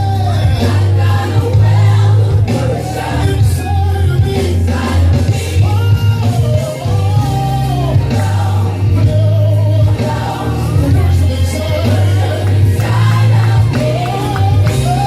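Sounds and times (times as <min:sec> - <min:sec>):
gospel group singing: 0:00.0 - 0:15.0
steady bass line: 0:00.0 - 0:15.0.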